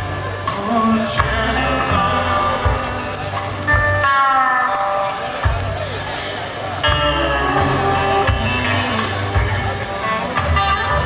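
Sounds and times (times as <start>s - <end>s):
electric guitars: 0.0s - 11.0s
live rock band playing: 0.0s - 11.0s.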